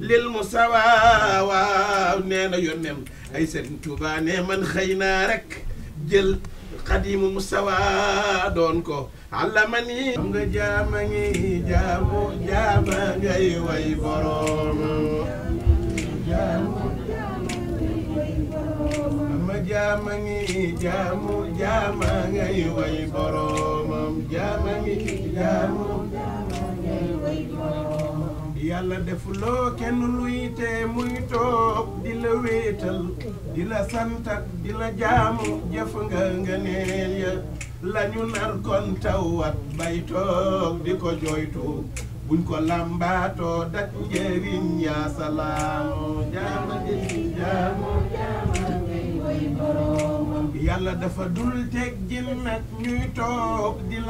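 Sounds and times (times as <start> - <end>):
man chanting unaccompanied: 0.0 - 54.0.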